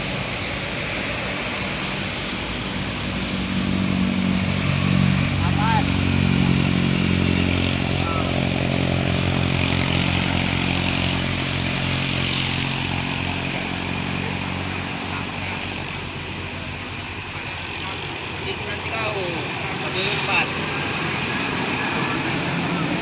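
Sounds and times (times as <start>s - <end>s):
road noise: 0.0s - 23.0s
vehicle engine droning: 0.0s - 23.0s.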